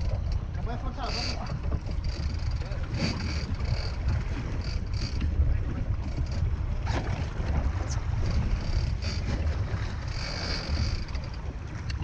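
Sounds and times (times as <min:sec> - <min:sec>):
boat engine rumbling: 0:00.0 - 0:12.0
wind buffeting microphone: 0:00.0 - 0:12.0.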